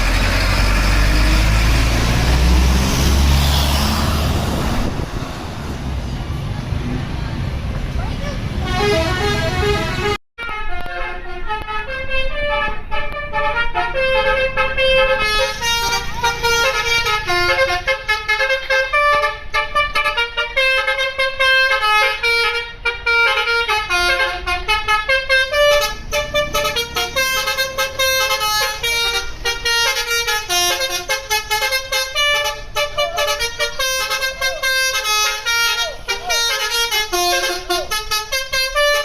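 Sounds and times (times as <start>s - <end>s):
multi-tone bus horn tune: 3.1s - 5.0s, 8.2s - 39.0s.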